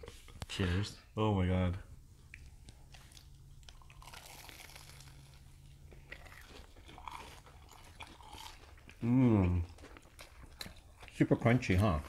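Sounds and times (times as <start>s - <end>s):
crunching and chewing: 2.3s - 12.0s.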